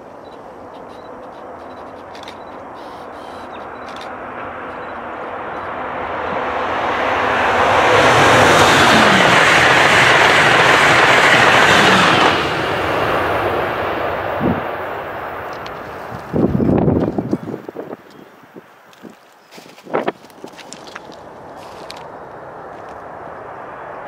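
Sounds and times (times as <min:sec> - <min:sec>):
high-speed train passing: 0:00.0 - 0:19.0, 0:20.0 - 0:24.0.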